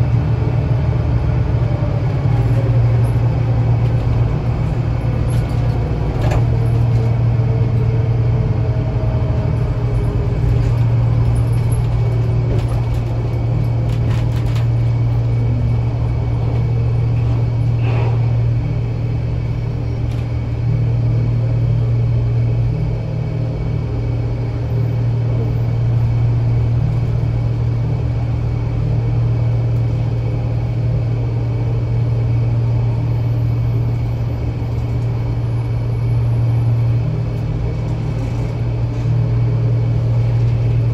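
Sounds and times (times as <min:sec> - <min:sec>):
bus engine drone: 0:00.0 - 0:40.9
road noise: 0:00.0 - 0:40.9.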